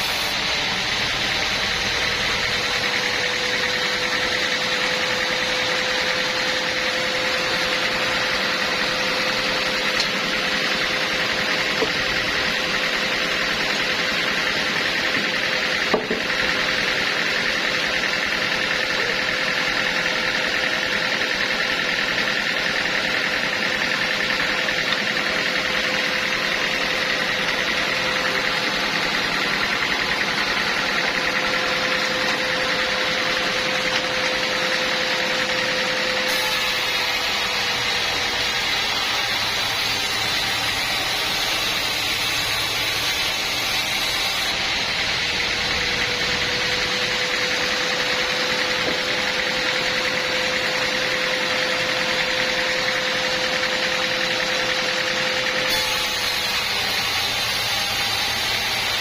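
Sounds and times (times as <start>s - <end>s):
sawmill droning with whine: 0.0s - 59.0s.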